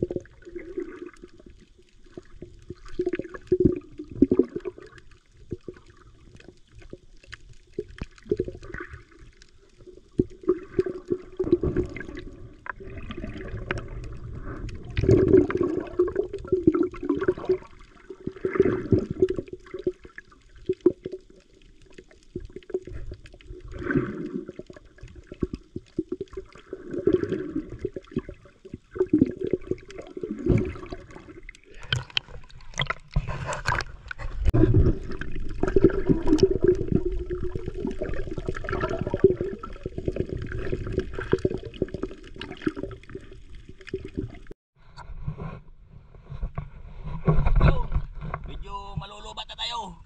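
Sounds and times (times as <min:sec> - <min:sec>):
water splashes: 0:00.0 - 0:44.6
underwater gurgling and swishing: 0:00.0 - 0:49.7.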